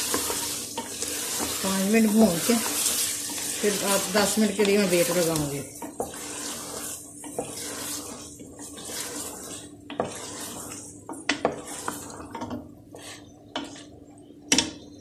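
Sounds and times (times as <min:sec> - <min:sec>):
frying hiss: 0:00.0 - 0:14.0
wooden spoon stirring and scraping: 0:00.0 - 0:15.0.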